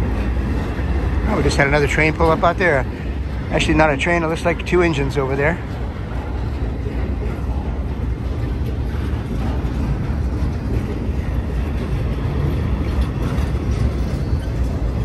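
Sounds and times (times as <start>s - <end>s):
steel train wheels rumbling on rails: 0.0s - 15.0s.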